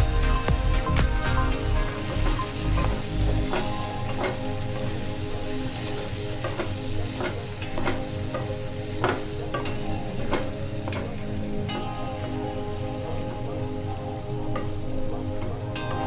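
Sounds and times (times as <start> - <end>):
food sizzling in a pan: 0.2 - 16.0.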